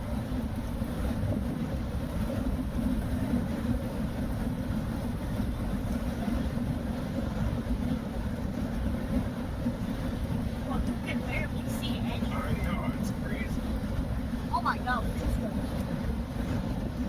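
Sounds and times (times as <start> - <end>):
car tyres and engine rumbling: 0.0 - 17.0.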